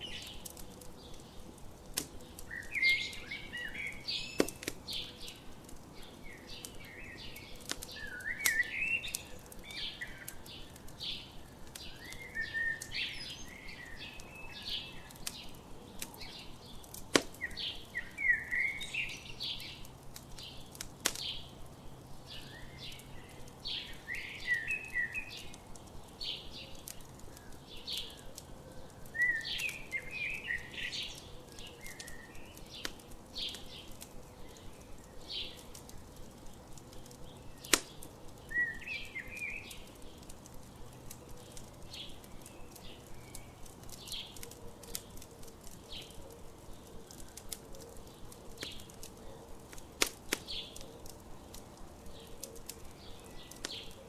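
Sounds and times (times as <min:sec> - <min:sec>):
birds chirping and twittering: 0:00.0 - 0:54.0
campfire crackling and popping: 0:00.0 - 0:54.0.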